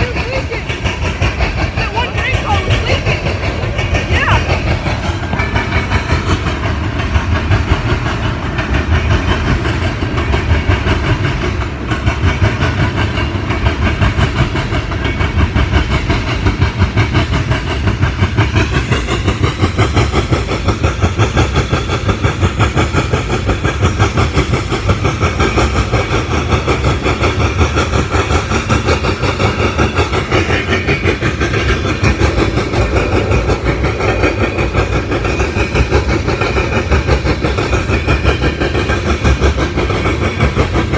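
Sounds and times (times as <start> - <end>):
freight train wheels clacking on rails: 0.0 - 40.9.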